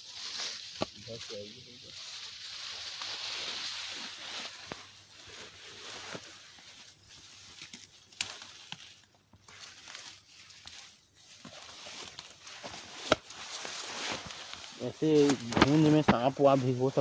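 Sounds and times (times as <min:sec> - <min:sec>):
footsteps rustling through grass: 0:00.0 - 0:17.0.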